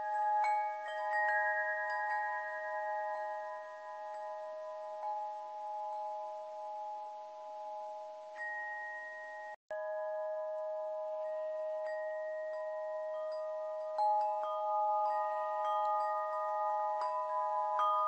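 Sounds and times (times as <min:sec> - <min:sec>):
chime tones ringing: 0:00.0 - 0:18.0.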